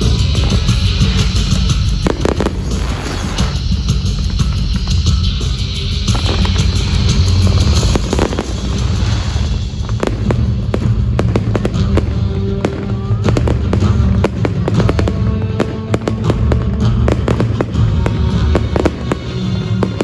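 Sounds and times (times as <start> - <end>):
fireworks crackling and popping: 0.0 - 20.0
loud show music with heavy bass: 0.0 - 20.0.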